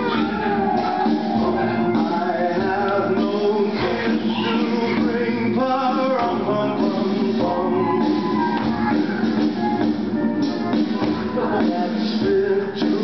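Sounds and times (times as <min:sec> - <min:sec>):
recorded song with singing: 0:00.0 - 0:13.0.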